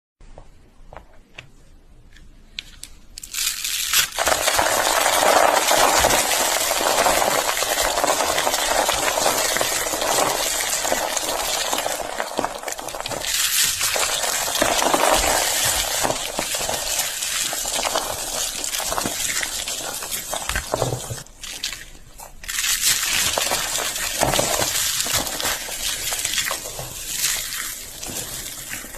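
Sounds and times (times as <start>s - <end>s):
slate pencils crunching: 2.7s - 28.9s.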